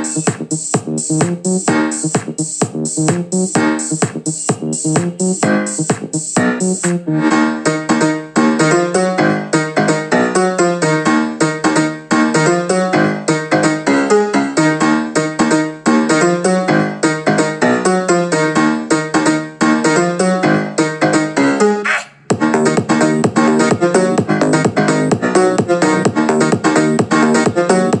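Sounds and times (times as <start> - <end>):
fast repeated keyboard notes: 0.0 - 28.0.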